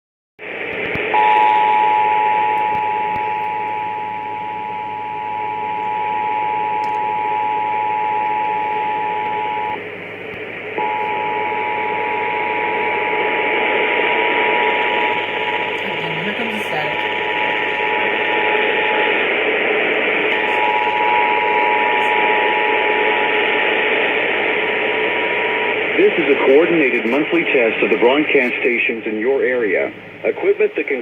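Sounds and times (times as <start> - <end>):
radio static: 0.4 - 31.0.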